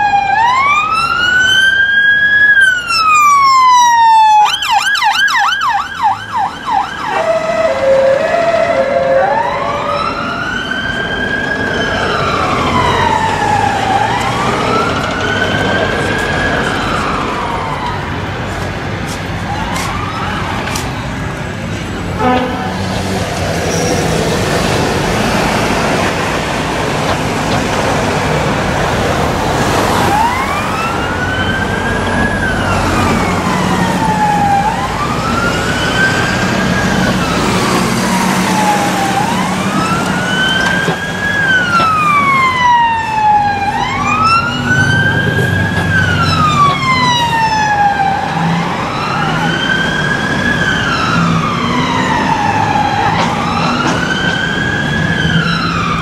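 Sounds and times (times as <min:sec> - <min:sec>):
busy city traffic: 0:00.0 - 0:56.0
police siren wailing: 0:00.0 - 0:56.0.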